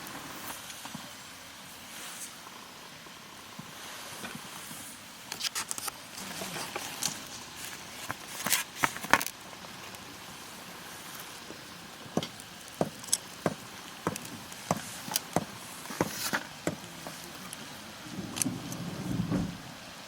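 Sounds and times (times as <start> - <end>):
campfire crackling and popping: 0.0 - 18.7.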